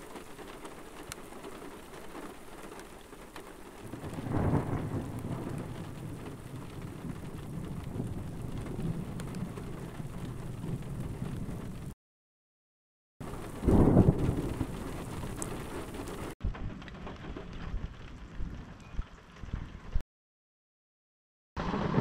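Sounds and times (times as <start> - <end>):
steady rain: 0.0 - 12.0, 13.2 - 19.7, 21.6 - 22.0
thunder rumbling: 0.0 - 12.0, 13.2 - 20.0, 21.6 - 22.0.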